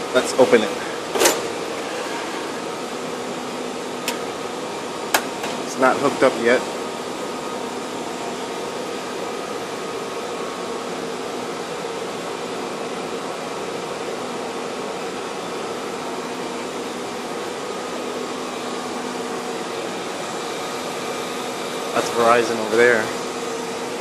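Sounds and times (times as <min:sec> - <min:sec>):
cooling fans whirring: 0:00.0 - 0:24.0.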